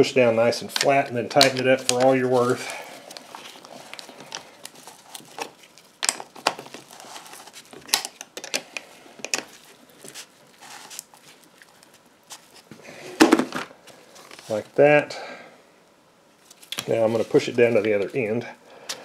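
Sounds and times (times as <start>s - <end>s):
soft handling noise: 0.3s - 15.0s, 16.4s - 19.0s.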